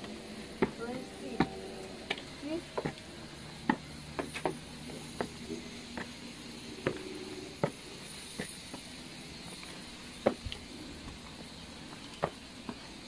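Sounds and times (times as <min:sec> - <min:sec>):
footsteps on concrete stairs: 0:00.0 - 0:06.2, 0:06.8 - 0:08.9, 0:09.6 - 0:13.0.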